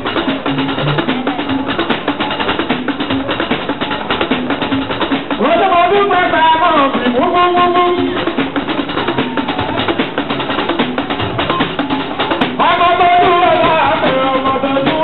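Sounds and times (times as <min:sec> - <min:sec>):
drum and percussion rhythm: 0:00.0 - 0:15.0.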